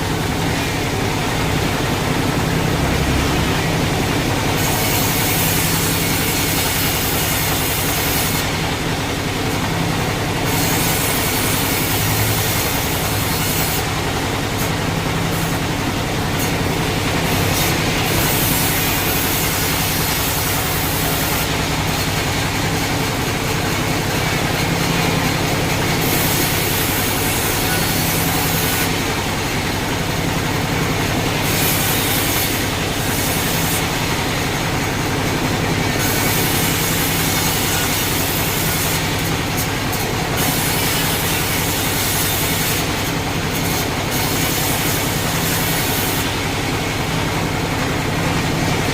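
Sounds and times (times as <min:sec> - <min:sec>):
sawmill machinery humming: 0:00.0 - 0:48.9.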